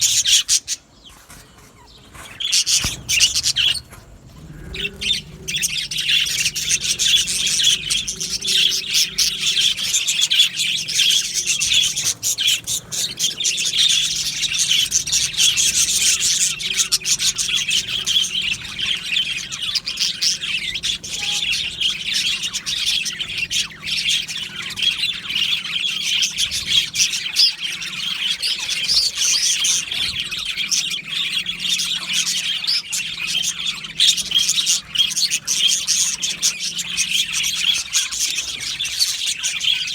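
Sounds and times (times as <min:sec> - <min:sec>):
flock of budgerigars chattering: 0:00.0 - 0:39.9.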